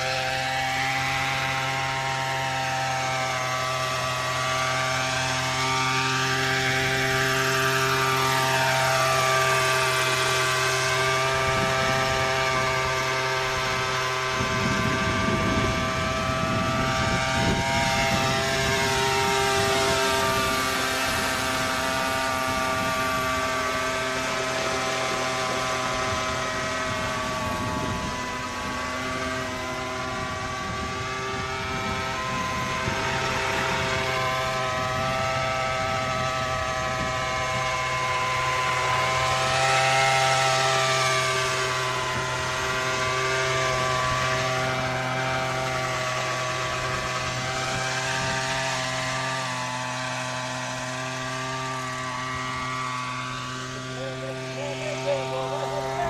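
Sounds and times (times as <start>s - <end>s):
model airplane engine in flight: 0.0s - 56.0s.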